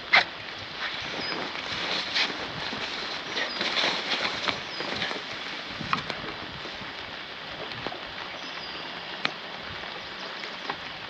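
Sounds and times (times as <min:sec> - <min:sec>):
light rain pattering: 0:00.0 - 0:11.0.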